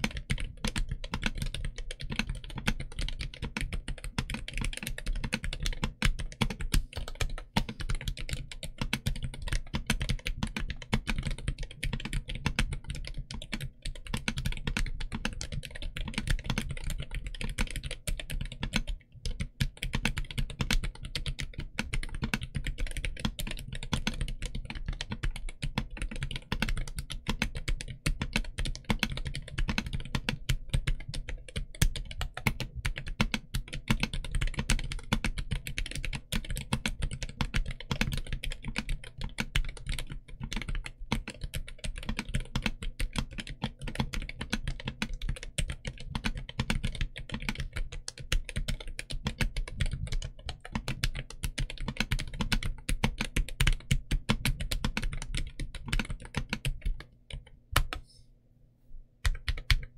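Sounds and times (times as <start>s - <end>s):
mechanical keyboard typing: 0.0s - 58.0s, 59.2s - 59.9s.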